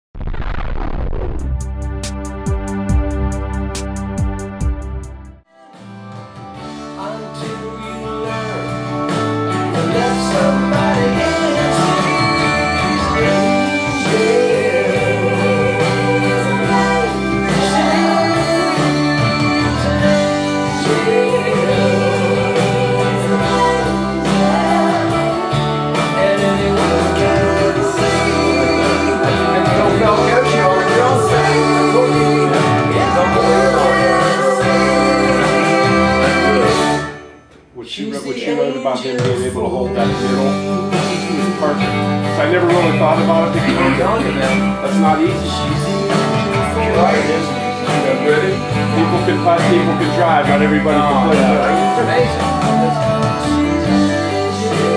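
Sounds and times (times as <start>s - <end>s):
live band playing: 8.4s - 37.7s, 39.2s - 54.9s.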